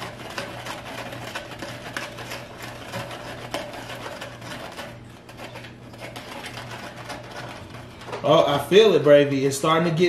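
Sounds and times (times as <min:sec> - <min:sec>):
spoon scraping a foam cup: 0:00.0 - 0:08.7.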